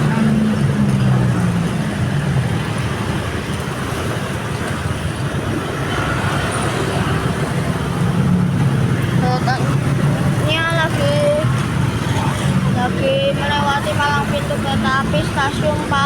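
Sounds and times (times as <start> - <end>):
road traffic engines: 0.0 - 16.0.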